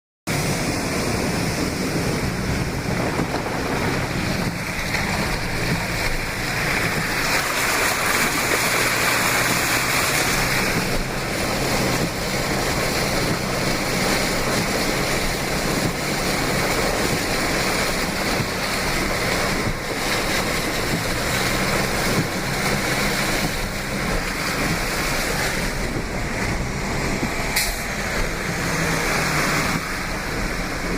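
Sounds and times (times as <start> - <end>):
floodwater rushing: 0.3 - 30.9.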